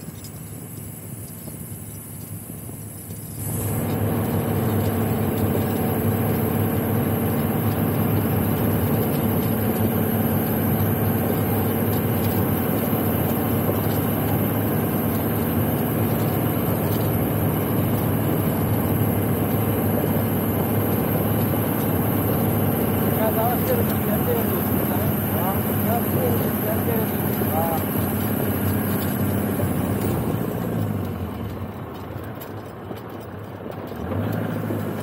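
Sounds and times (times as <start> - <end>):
car engine running: 0.0 - 35.0
road noise: 0.0 - 35.0.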